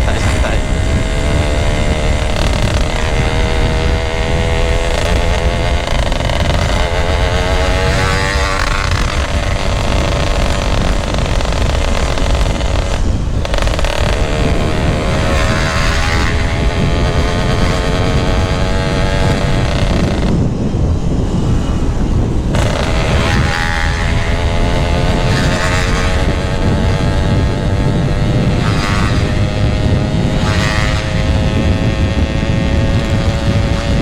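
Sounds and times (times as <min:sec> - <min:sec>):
motorcycle engine revving: 0:00.0 - 0:34.0
wind on microphone: 0:00.0 - 0:34.0.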